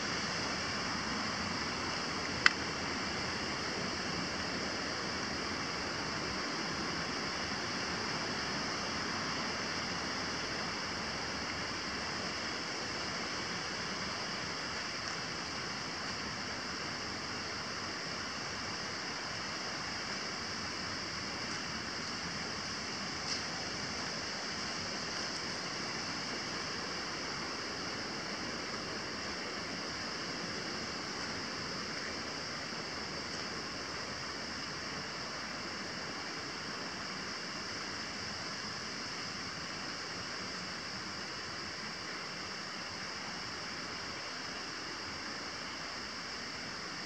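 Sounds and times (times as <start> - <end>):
constant high hiss: 0.0 - 47.0
mountain stream rushing: 0.0 - 47.0.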